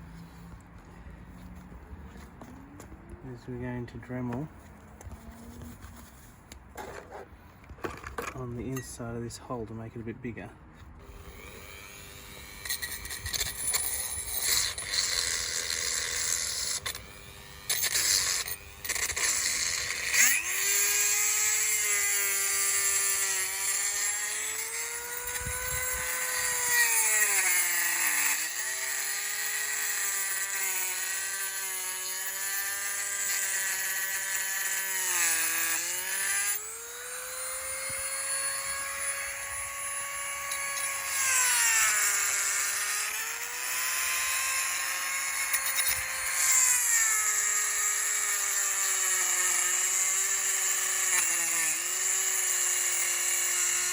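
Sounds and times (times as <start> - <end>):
rotary tool grinding whine: 0.0 - 9.0, 10.8 - 53.9.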